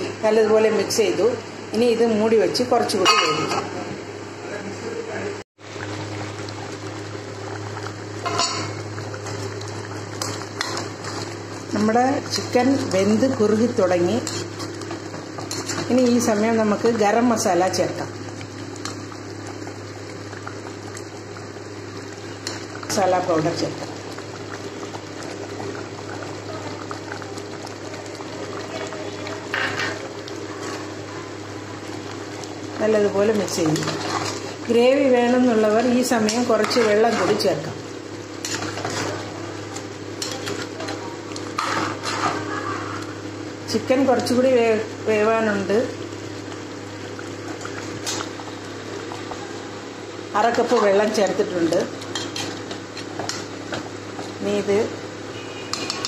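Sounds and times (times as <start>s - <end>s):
curry bubbling in a pan: 5.6s - 56.0s.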